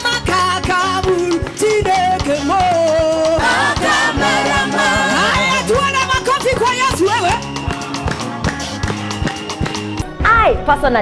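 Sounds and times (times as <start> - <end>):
choir singing gospel: 0.0 - 10.0
steady drum beat: 0.0 - 10.2.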